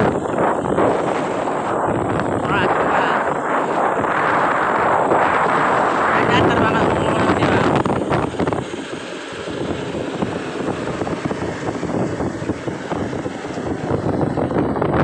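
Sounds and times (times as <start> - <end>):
road noise: 0.0 - 15.0
truck engine: 0.0 - 15.0
wind buffeting microphone: 0.0 - 15.0.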